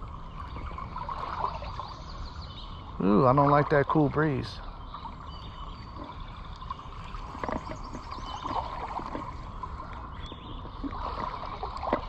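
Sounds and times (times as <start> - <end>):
wind rumble on microphone: 0.0 - 3.8, 4.6 - 12.0
creek water gurgling: 0.0 - 12.0.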